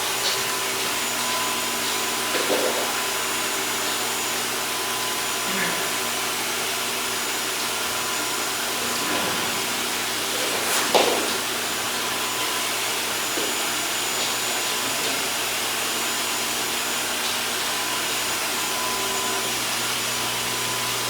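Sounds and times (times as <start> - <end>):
pet blow dryer running: 0.0 - 21.0.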